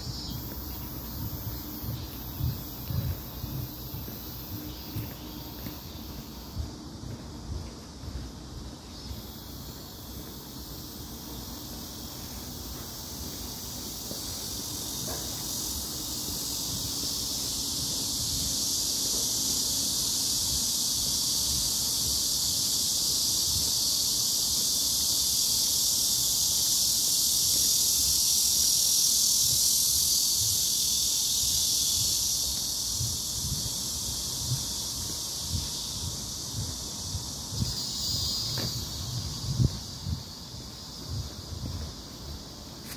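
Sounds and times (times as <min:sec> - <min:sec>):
wind rumble on microphone: 0:00.0 - 0:24.7, 0:25.4 - 0:42.9
cicadas droning: 0:00.0 - 0:42.9.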